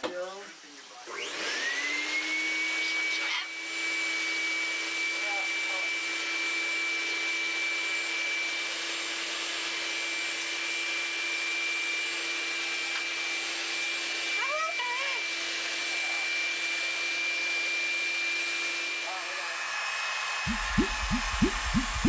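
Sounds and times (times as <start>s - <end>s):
hair dryer running: 1.1s - 22.0s.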